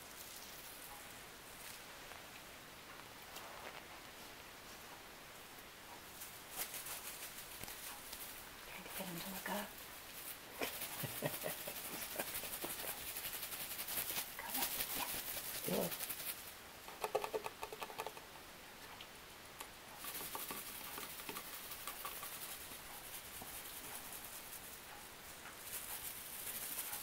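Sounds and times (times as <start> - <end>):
kitten paws scratching and patting: 0.0 - 5.1, 6.0 - 18.3, 19.6 - 27.0.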